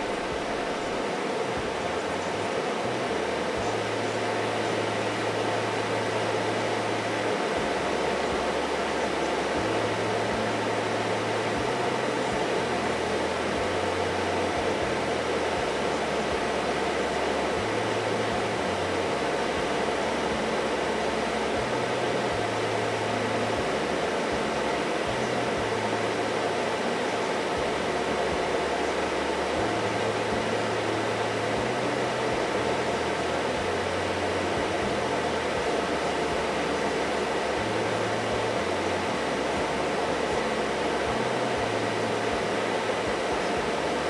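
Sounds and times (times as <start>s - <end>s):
blower fan air rushing: 0.0s - 44.0s
low hum shifting pitch: 0.0s - 44.0s.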